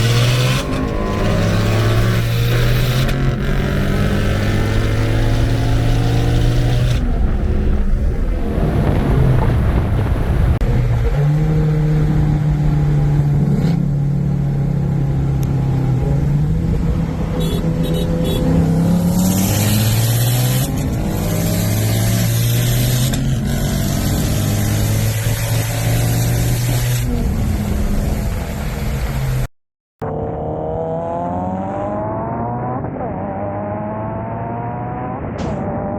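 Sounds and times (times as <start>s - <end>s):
car engine accelerating: 0.0s - 35.9s
wind and road noise: 0.0s - 35.9s.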